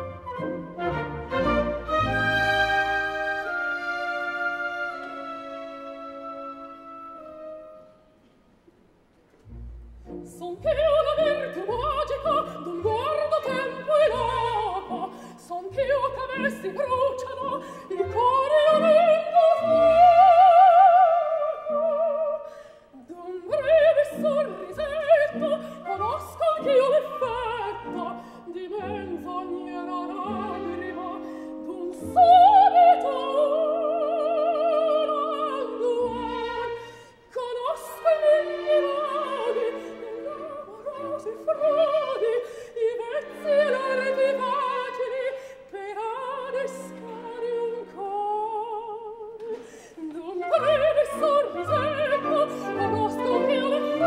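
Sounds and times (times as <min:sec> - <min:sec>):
light orchestral accompaniment: 0:00.0 - 0:54.0
soprano singing: 0:10.0 - 0:54.0.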